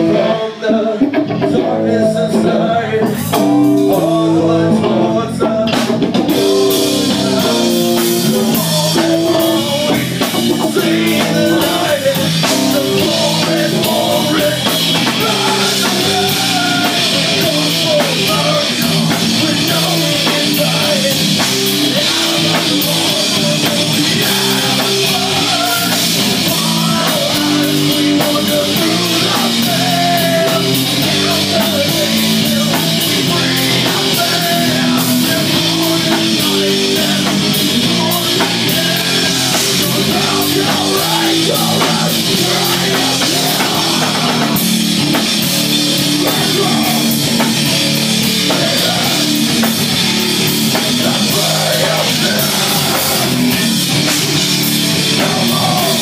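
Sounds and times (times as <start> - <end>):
man singing into a microphone: 0.0 - 44.6, 45.3 - 56.0
bass guitar: 0.0 - 56.0
drums and cymbals: 0.0 - 56.0
electric guitar: 0.0 - 56.0.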